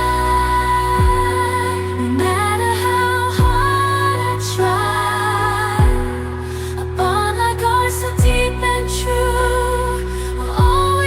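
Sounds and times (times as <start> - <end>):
deep bass sweep falling: 0.0 - 11.0
slow melody over bass notes: 0.0 - 11.0.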